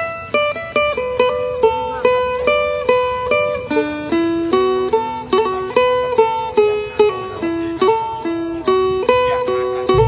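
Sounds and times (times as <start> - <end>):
lute picking quick melody: 0.0 - 10.0.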